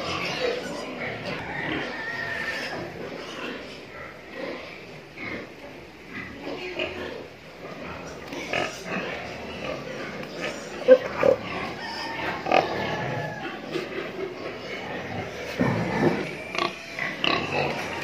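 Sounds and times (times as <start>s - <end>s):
pigs grunting: 0.0s - 18.0s.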